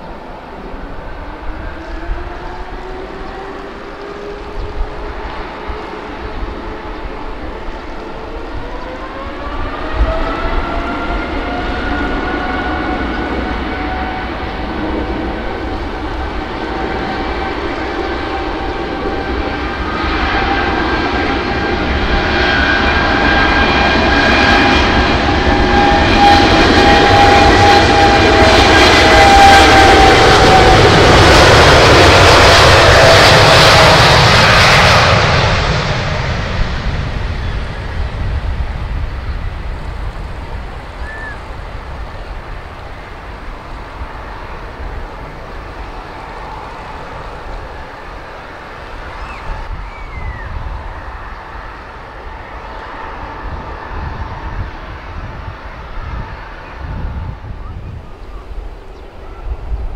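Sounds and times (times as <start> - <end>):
jet airliner taking off: 0.0 - 59.9
whining fan tones: 1.1 - 59.9.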